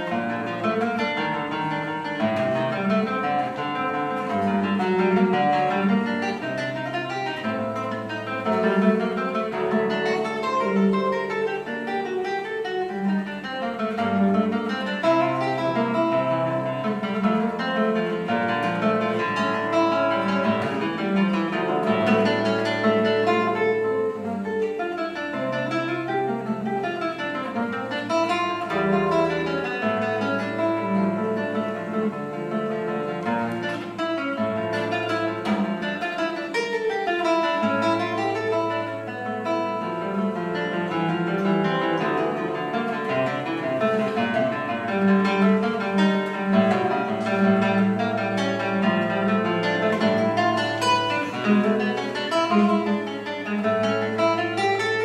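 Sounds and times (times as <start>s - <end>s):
classical guitar fingerstyle: 0.0s - 55.0s.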